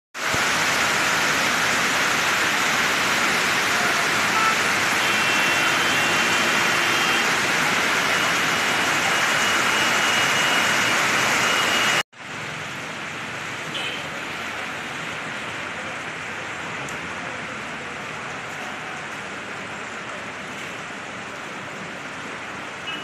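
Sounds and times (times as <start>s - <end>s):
heavy rain pouring: 0.2s - 23.0s.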